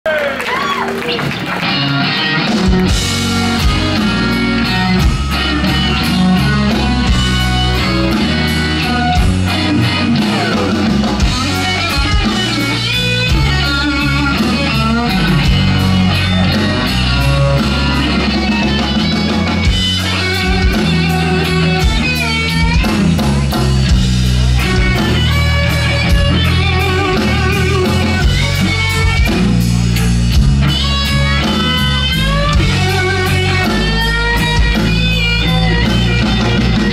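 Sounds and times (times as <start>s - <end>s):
bass guitar: 0.1s - 36.9s
drum kit: 0.5s - 36.9s
electric guitar lead lines: 0.5s - 36.9s.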